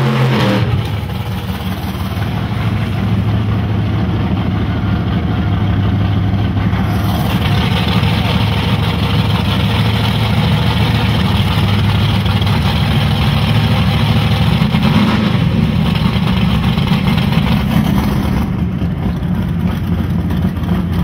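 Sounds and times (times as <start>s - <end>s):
car engine idling loudly: 0.0s - 21.0s.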